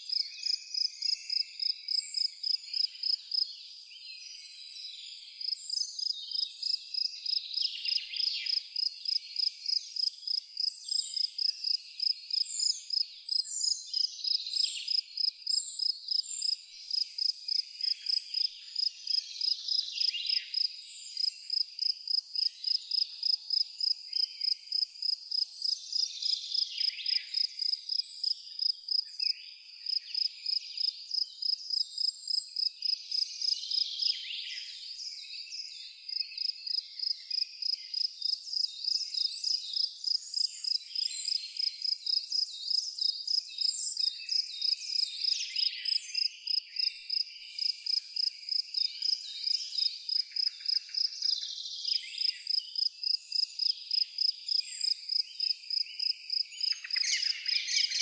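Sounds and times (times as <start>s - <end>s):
cricket chirping: 0.1s - 3.8s, 5.4s - 34.9s, 36.1s - 58.0s.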